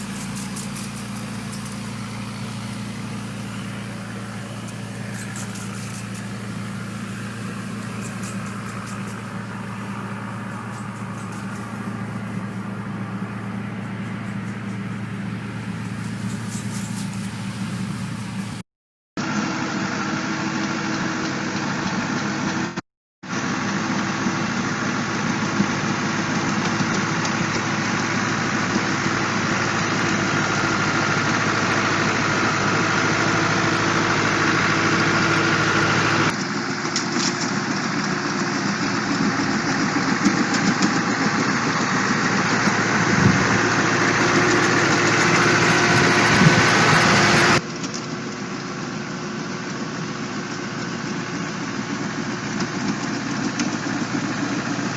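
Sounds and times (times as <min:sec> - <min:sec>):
tree-cutting machine engine running: 0:00.0 - 0:18.6, 0:19.2 - 0:54.9.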